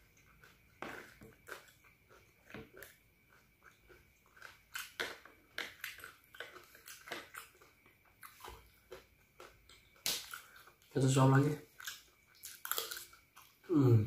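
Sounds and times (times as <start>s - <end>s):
person chewing noodles: 0.0s - 10.9s, 11.6s - 14.0s.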